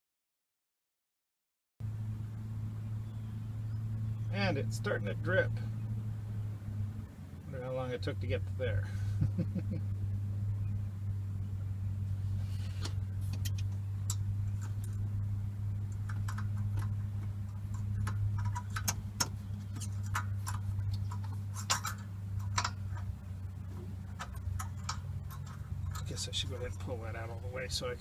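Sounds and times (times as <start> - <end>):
steady low hum: 1.8 - 28.0.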